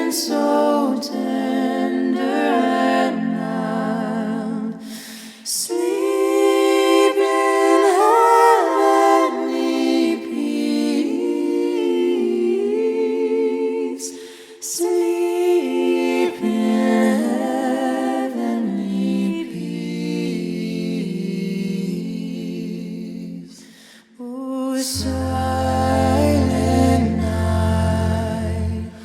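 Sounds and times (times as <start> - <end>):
voices singing in harmony: 0.0 - 29.0.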